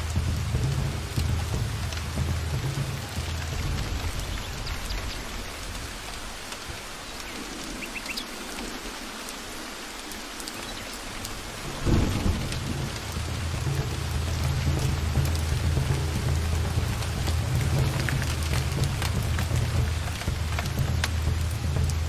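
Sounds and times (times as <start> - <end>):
thunder clap: 0.0 - 7.8, 11.0 - 22.0
low thunder rumble: 0.0 - 9.0, 11.0 - 22.0
steady rain: 0.0 - 22.0.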